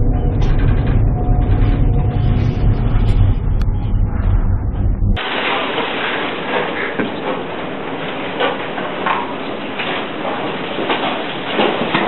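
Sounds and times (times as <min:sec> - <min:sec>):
storm wind and heavy seas: 0:00.0 - 0:12.0.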